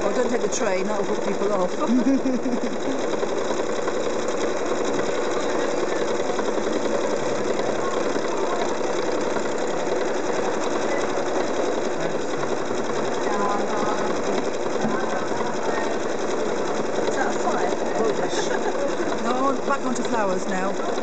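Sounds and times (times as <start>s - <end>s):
sewing machine stitching rapidly: 0.0s - 21.0s.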